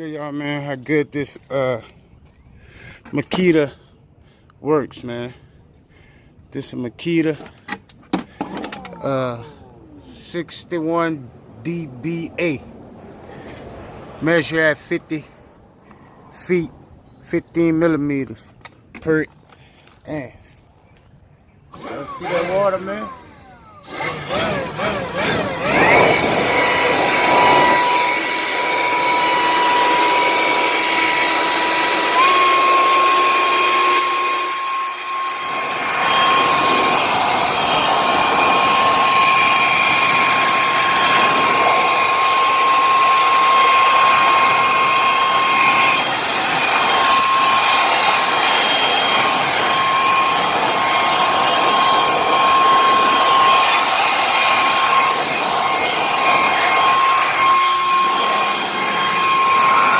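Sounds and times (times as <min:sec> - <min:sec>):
blower whining: 0:00.0 - 0:59.9.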